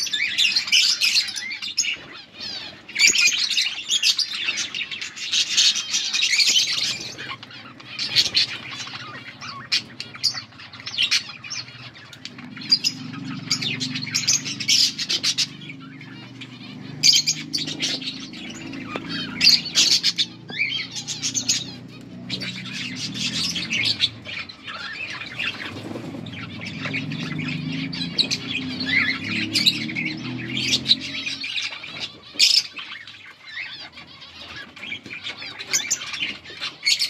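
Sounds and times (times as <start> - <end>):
budgerigars chirping and squawking: 0.0 - 37.0.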